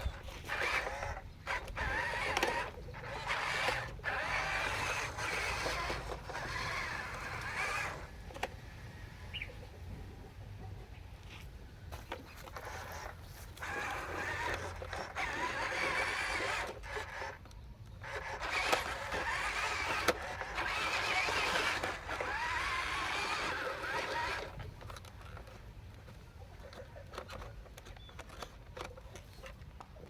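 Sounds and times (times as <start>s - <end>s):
small electric motors whirring: 0.0s - 8.9s, 11.9s - 30.0s.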